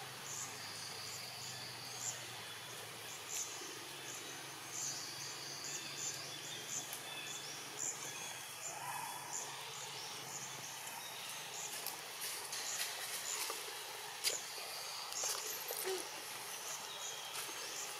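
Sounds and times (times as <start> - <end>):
steady hiss: 0.0 - 17.9.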